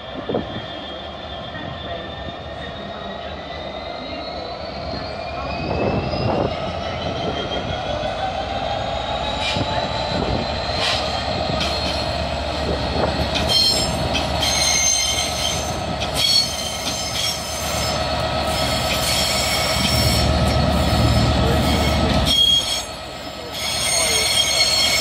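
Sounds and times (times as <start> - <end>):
diesel locomotive engine drone: 0.0 - 25.0
wheels squealing on rails: 0.0 - 25.0.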